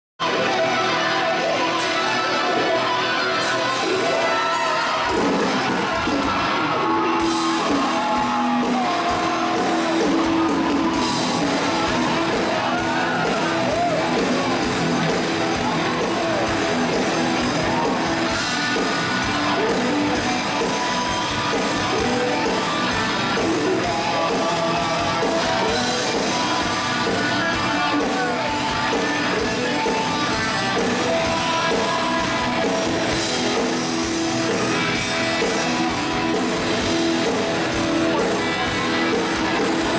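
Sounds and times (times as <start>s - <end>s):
man singing and shouting: 0.2s - 33.8s
electric guitar: 0.2s - 39.9s
live rock band playing: 0.2s - 39.9s.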